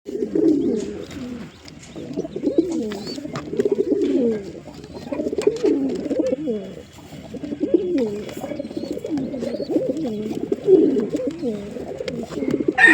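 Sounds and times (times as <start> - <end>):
pigeons cooing: 0.1 - 12.9.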